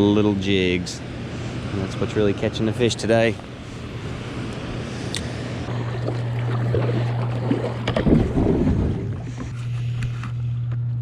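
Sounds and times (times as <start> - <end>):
steady low hum: 0.0 - 11.0
water moving around kayak: 1.2 - 10.4.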